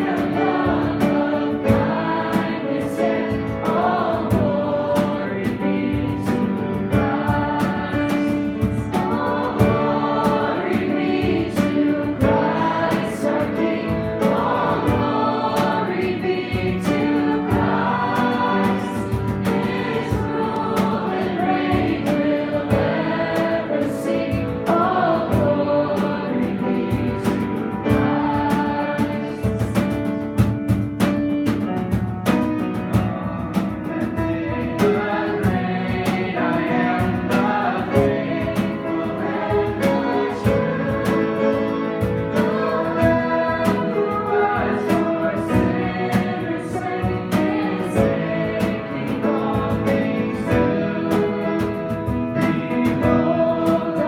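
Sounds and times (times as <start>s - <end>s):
band with steady beat: 0.0s - 54.0s
group singing worship song: 0.0s - 54.0s.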